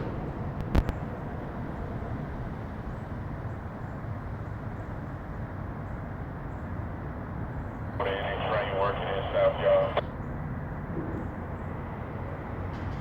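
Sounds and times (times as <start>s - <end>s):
distant vehicles rumbling: 0.0s - 13.0s.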